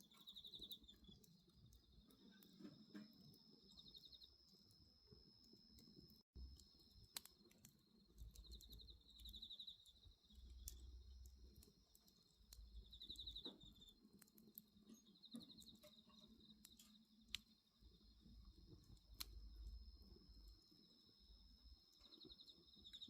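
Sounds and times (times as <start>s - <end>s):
bonfire crackling and popping: 0.0s - 20.9s
crickets chirping: 0.0s - 23.0s.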